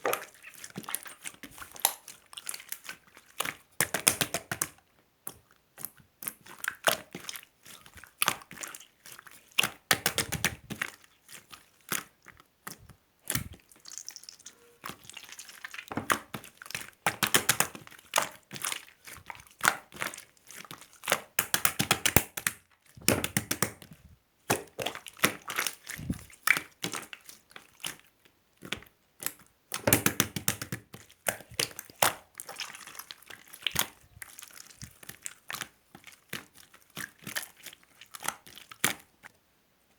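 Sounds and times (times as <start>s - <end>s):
slime squelching with wet clicks: 0.0s - 39.4s.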